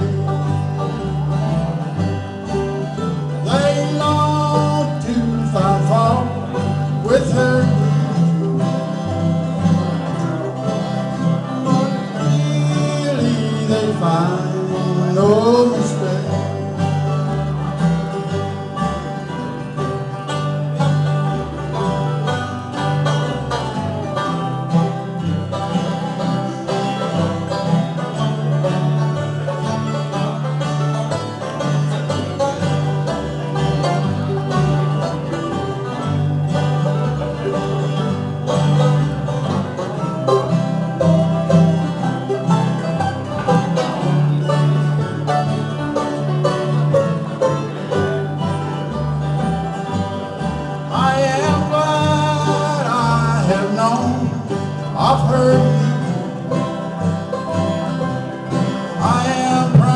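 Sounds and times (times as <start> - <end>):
banjo picking: 0.0 - 59.9
bluegrass band playing: 0.0 - 59.9
steady bass line: 0.0 - 59.9
strummed guitar: 0.0 - 59.9.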